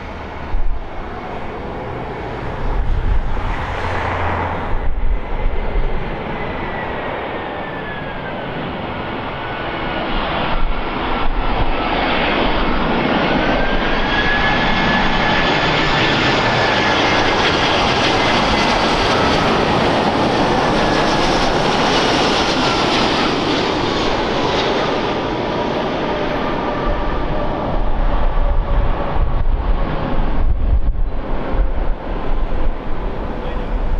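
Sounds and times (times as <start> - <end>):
jet engines roaring and whining: 0.0 - 33.9.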